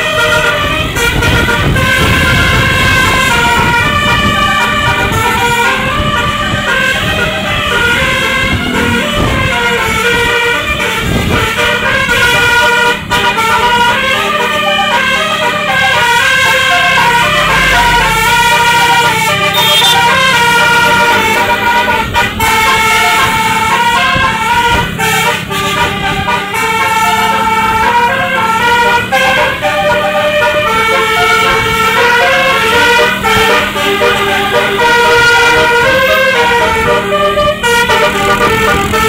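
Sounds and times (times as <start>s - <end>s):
bus horn playing a melody: 0.0s - 39.0s.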